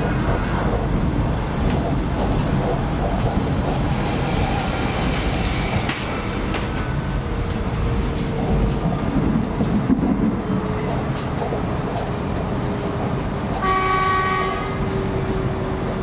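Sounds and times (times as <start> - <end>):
train carriage running noise: 0.0 - 16.0.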